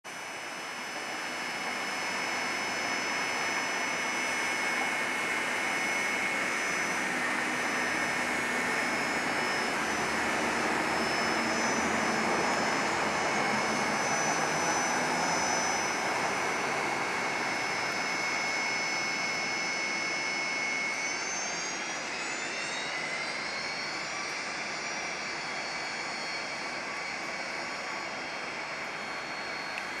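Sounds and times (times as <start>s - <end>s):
jet engine noise with whine: 0.0s - 30.0s
whining tones gliding upward: 0.1s - 30.0s.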